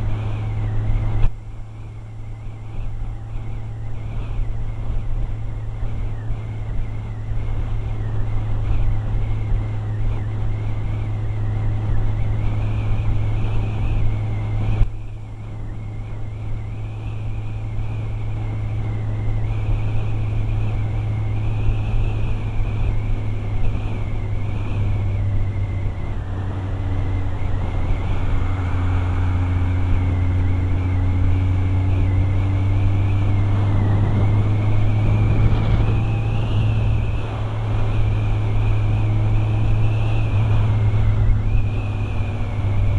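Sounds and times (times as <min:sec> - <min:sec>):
high wavering whine: 0:00.0 - 0:42.9
motorcycle engine running: 0:00.0 - 0:42.9
wind and road noise: 0:00.0 - 0:42.9.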